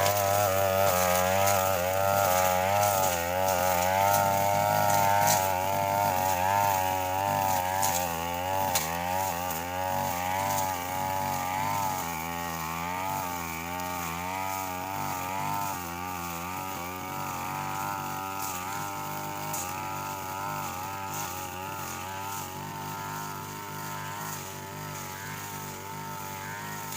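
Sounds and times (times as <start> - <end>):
brush cutter engine running: 0.0 - 26.9.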